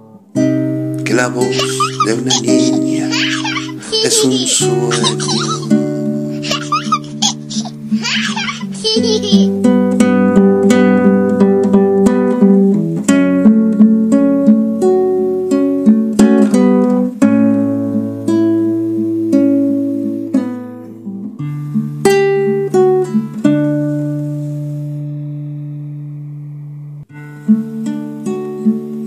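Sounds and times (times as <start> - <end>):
acoustic guitar picking: 0.0 - 29.0.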